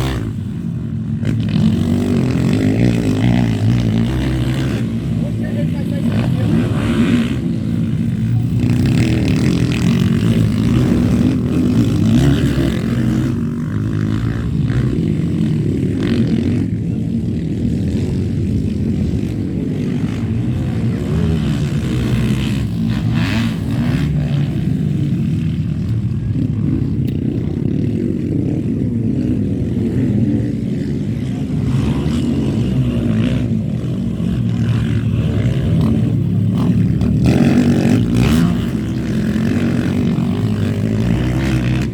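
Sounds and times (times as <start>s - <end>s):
motocross bike engines droning: 0.0s - 41.9s.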